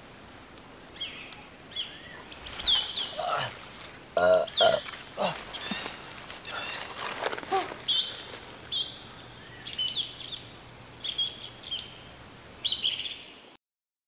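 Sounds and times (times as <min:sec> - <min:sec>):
birds chirping: 0:00.9 - 0:13.6.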